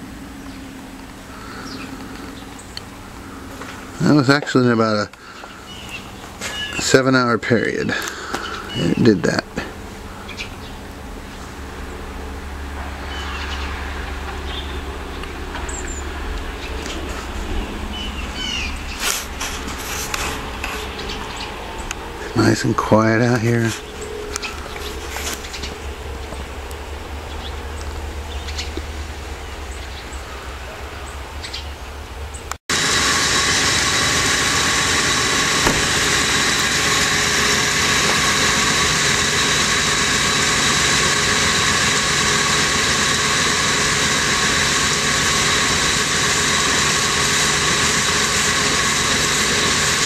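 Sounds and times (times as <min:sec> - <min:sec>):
engine-like drone at idle: 0:00.0 - 0:50.0
low hum: 0:00.0 - 0:50.0.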